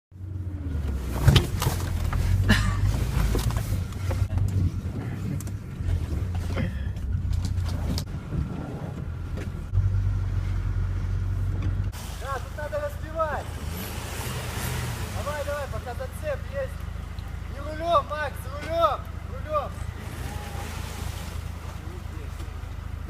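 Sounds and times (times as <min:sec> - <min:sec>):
vehicle engine running low: 0:00.1 - 0:23.0.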